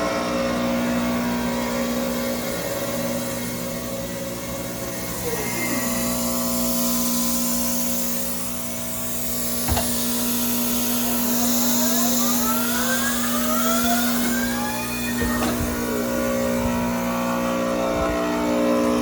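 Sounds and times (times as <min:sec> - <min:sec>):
grinder electric hum: 0:00.0 - 0:19.0
rising whines of part spinning up: 0:00.8 - 0:08.7, 0:09.5 - 0:18.4.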